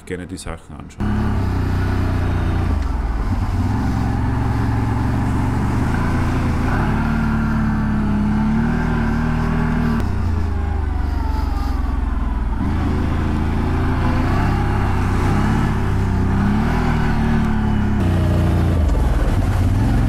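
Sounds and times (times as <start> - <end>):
atv engine running: 1.0 - 20.0.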